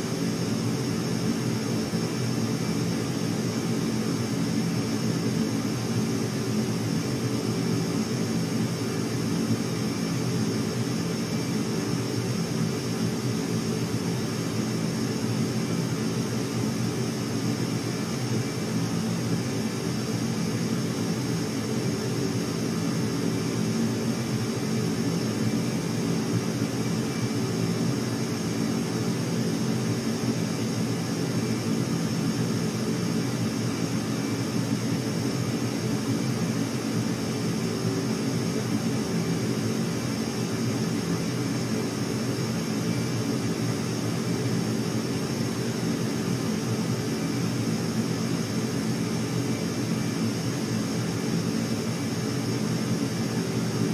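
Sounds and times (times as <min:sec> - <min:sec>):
aircraft engines running: 0:00.0 - 0:53.9.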